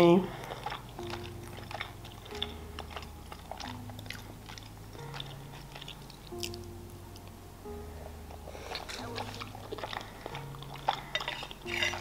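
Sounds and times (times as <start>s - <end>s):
soft background music: 0.0s - 12.0s
close chewing and mouth clicks: 0.3s - 7.4s, 8.3s - 12.0s.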